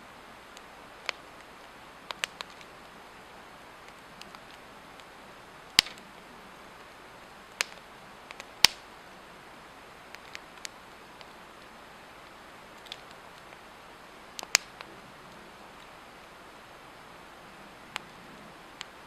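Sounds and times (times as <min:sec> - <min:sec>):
log fire crackling and popping: 0:00.0 - 0:17.0, 0:17.7 - 0:19.0
fire hissing: 0:00.4 - 0:08.9, 0:09.5 - 0:19.0.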